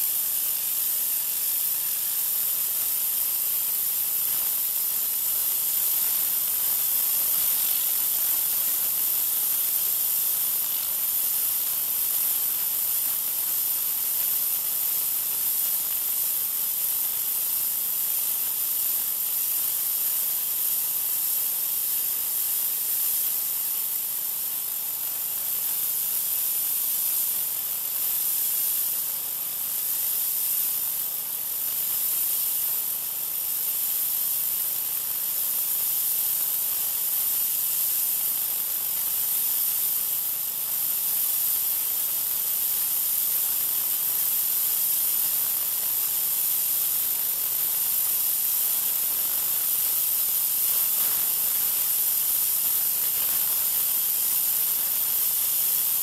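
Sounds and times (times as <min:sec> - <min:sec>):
pressure washer spraying concrete: 0:00.0 - 0:56.0.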